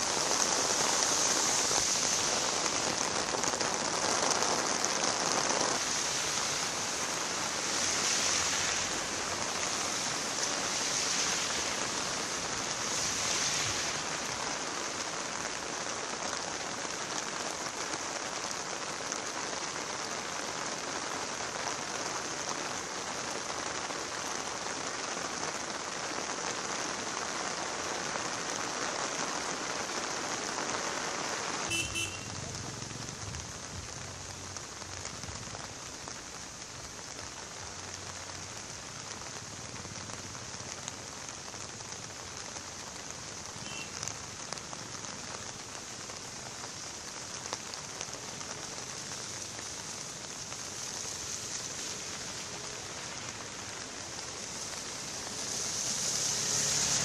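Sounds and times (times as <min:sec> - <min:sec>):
steady rain falling: 0:00.0 - 0:57.0
vehicles on wet road: 0:00.0 - 0:57.0.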